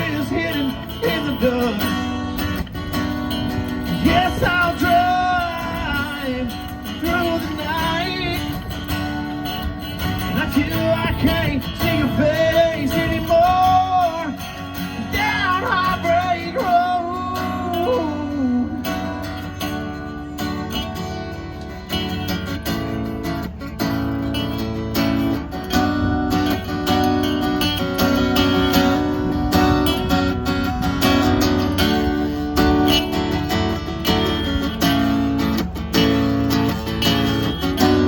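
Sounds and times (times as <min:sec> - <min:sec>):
country rock band playing: 0:00.0 - 0:38.0
strummed acoustic guitar: 0:00.0 - 0:38.0.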